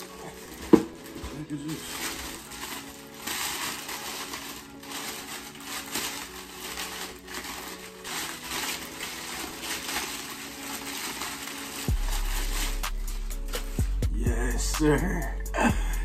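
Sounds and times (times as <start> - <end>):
packing paper crinkling: 0.0 - 13.9.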